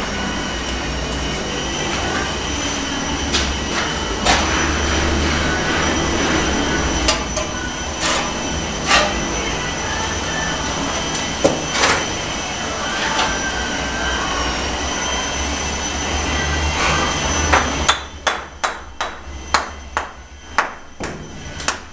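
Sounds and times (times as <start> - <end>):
low mechanical hum with whine: 0.0 - 21.9.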